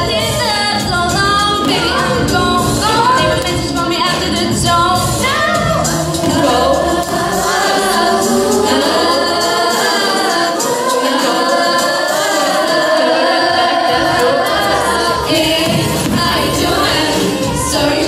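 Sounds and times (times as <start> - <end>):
girls singing into microphones: 0.0 - 18.0.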